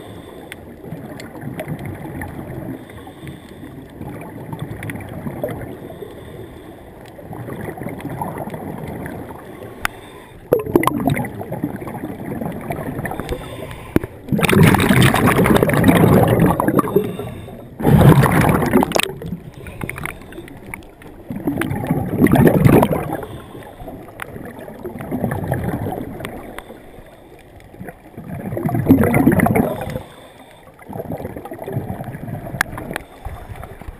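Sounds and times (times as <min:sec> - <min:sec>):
bubbling and gurgling: 0:00.0 - 0:33.9
muffled underwater water wash: 0:00.0 - 0:33.9.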